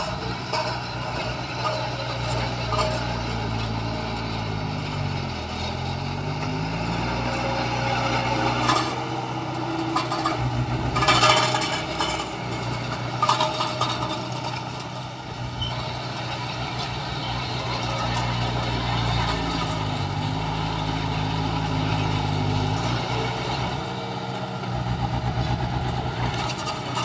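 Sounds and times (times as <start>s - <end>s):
clanking and scraping: 0.0s - 27.0s
heavy diesel machinery engine hum: 0.0s - 27.0s.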